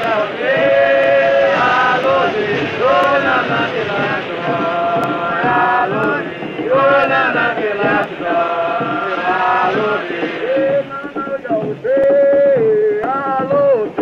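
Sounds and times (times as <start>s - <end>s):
men chanting a work song: 0.0s - 14.0s.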